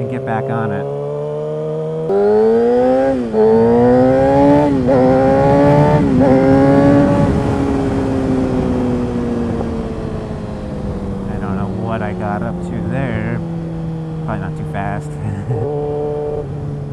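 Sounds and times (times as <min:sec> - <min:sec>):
motorcycle engine accelerating: 0:00.0 - 0:16.9.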